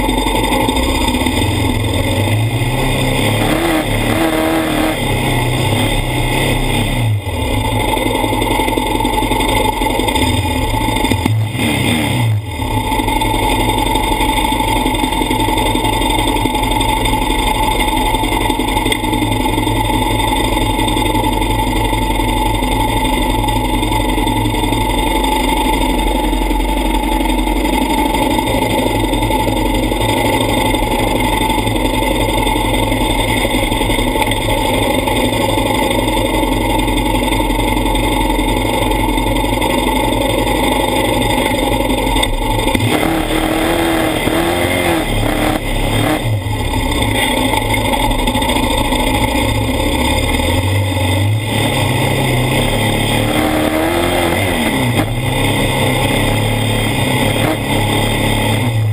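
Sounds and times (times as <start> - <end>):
quad engines revving: 0.0 - 58.9.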